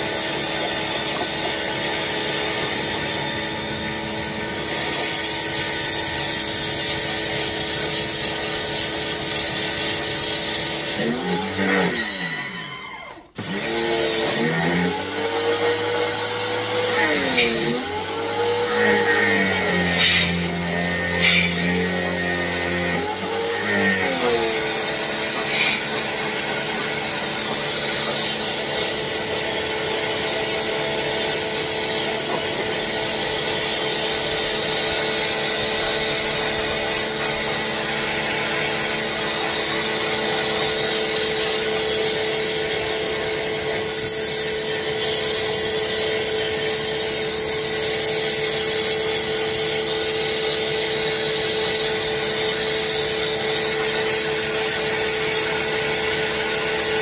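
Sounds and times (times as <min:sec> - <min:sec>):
water jet hissing on concrete: 0:00.0 - 0:12.4, 0:13.2 - 0:57.0
pressure washer motor humming: 0:00.0 - 0:57.0.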